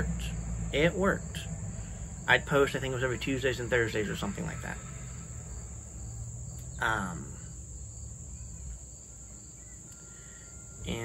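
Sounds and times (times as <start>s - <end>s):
crickets trilling: 0.0s - 11.0s
low background hum: 0.0s - 11.0s.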